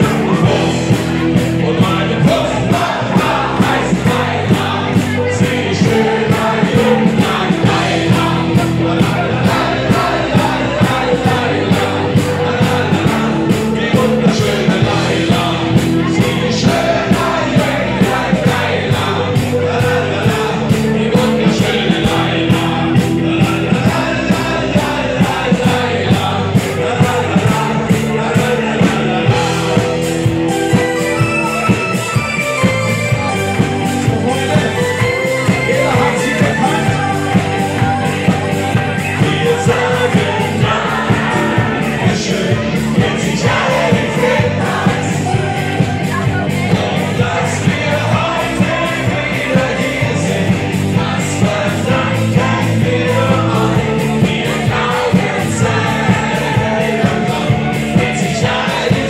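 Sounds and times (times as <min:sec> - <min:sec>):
bass guitar: 0:00.0 - 0:59.0
drums with driving beat: 0:00.0 - 0:59.0
electric guitar: 0:00.0 - 0:59.0
person singing: 0:00.0 - 0:59.0.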